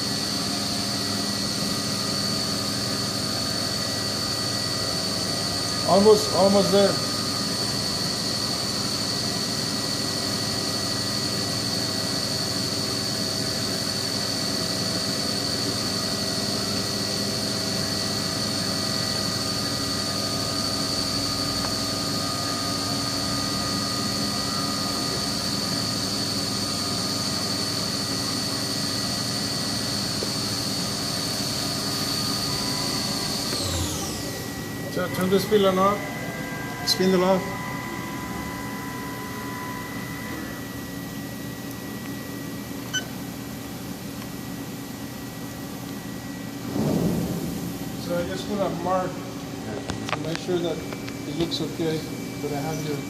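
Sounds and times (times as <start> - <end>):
milling machine spindle whine: 0.0 - 53.0.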